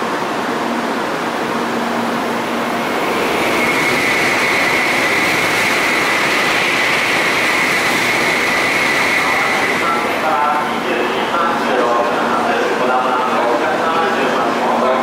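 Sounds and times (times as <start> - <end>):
high steady whine: 0.0 - 15.0
train rushing past: 0.0 - 15.0.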